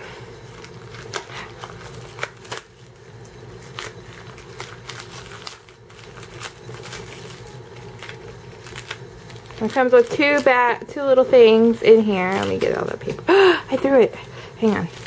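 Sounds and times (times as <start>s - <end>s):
plastic wrapping crinkling and tearing: 0.4s - 15.0s.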